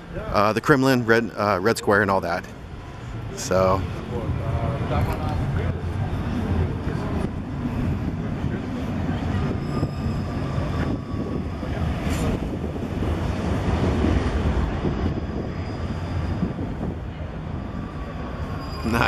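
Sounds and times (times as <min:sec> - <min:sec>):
street noise: 0:00.0 - 0:19.0
tram rumbling past: 0:00.0 - 0:19.0
faint whining tones: 0:02.2 - 0:19.0.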